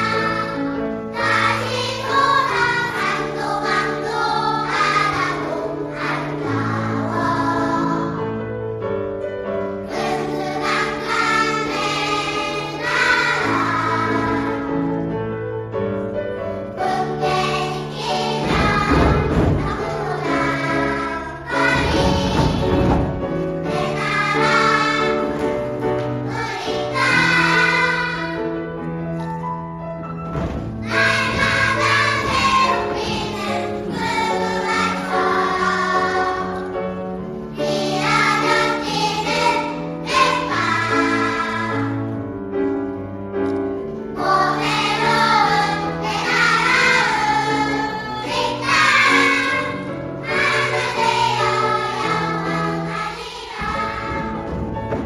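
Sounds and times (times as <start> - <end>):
choir singing: 0.0 - 8.5, 9.7 - 15.1, 16.6 - 28.6, 30.8 - 42.2, 44.1 - 54.7.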